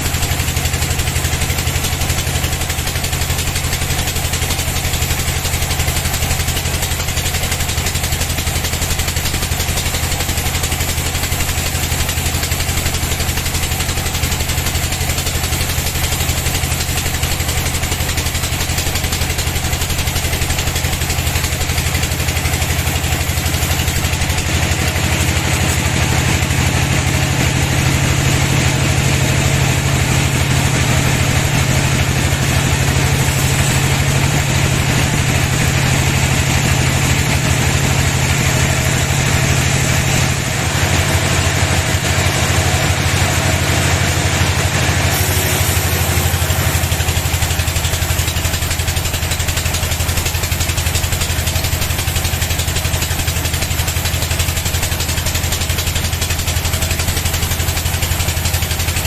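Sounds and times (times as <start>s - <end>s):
sawmill machinery droning: 0.0s - 59.0s.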